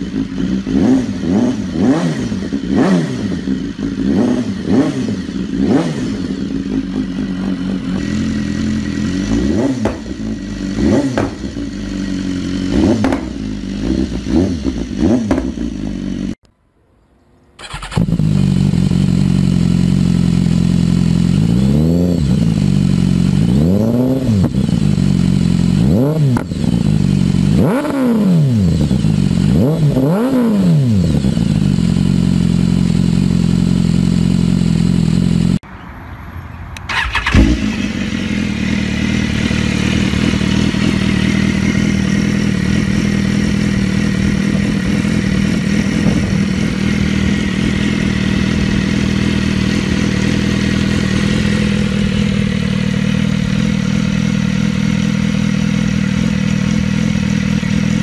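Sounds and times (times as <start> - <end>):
motorcycle engine revving and idling: 0.0 - 16.5, 17.6 - 35.7, 36.8 - 58.0.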